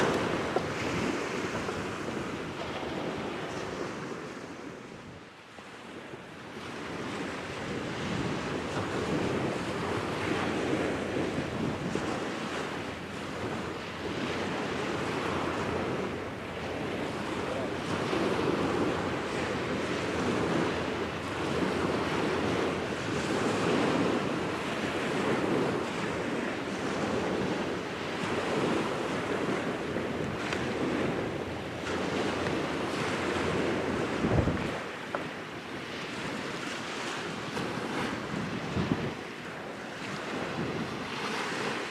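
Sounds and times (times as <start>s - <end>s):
water washing on shore: 0.0s - 4.8s, 6.5s - 41.9s
wind on microphone: 0.0s - 41.9s.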